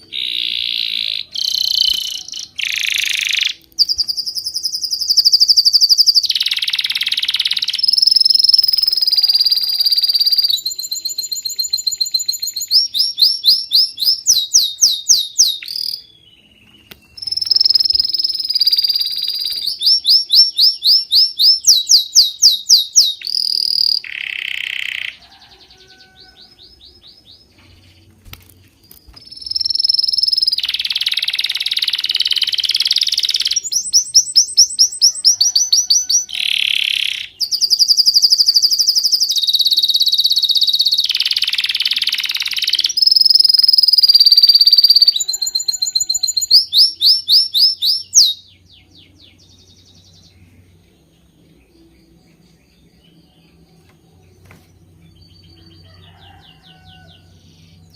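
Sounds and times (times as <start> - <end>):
birds chirping and trilling: 0.0 - 57.9.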